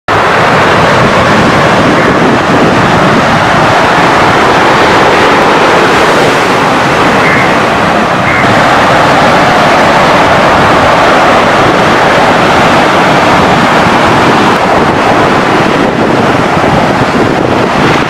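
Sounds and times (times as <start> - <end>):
waves breaking on sandy beach: 0.1 - 18.0
wind blowing on microphone: 0.1 - 18.0.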